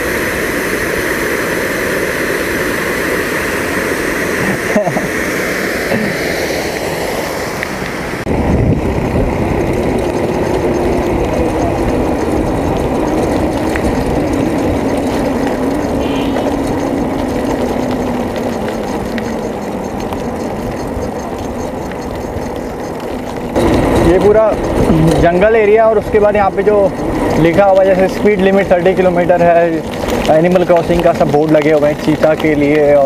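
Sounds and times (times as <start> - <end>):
water rushing over a weir: 0.0 - 33.0
wind and road noise: 0.0 - 33.0.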